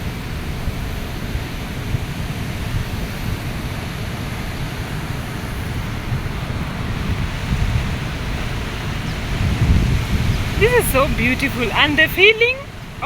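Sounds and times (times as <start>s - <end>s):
wind buffeting microphone: 0.0s - 13.0s
falling water rushing: 1.8s - 13.0s.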